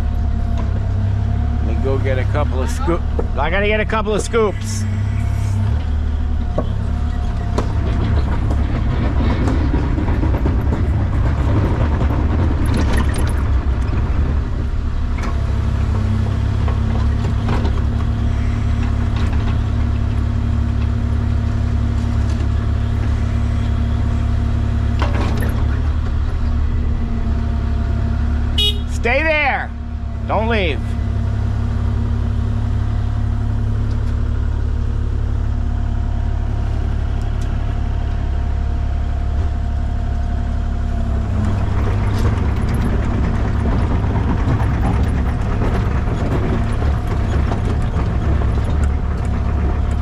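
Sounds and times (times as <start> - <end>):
diesel engine of digging machine: 0.0 - 50.0.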